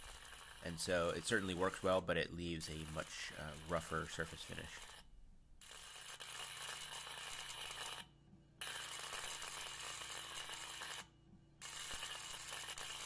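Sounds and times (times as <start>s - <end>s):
electrical sparking crackling buzz: 0.0s - 13.0s.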